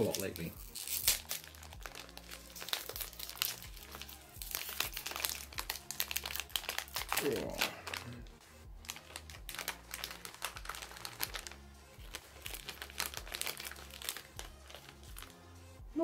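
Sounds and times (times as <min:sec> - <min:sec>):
plastic wrapper crinkling: 0:00.0 - 0:15.3
faint background music: 0:00.0 - 0:16.0.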